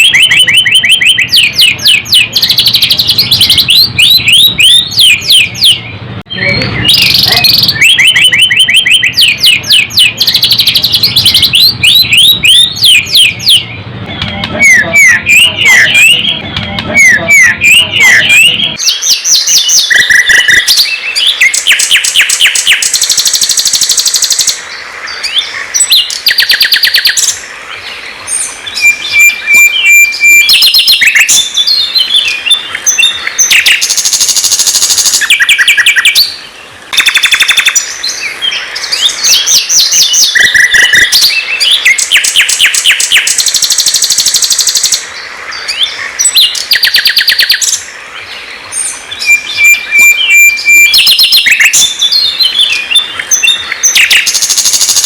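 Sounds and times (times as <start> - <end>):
bird chirps and whistles: 0.0 - 24.6, 25.2 - 27.4, 28.4 - 36.4, 37.0 - 45.0, 45.7 - 47.8, 48.8 - 55.0
songbird trilling: 0.0 - 55.0.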